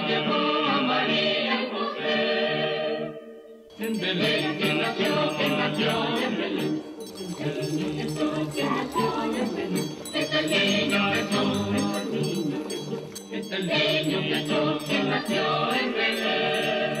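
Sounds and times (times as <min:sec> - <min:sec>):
group singing over instruments: 0:00.0 - 0:17.0.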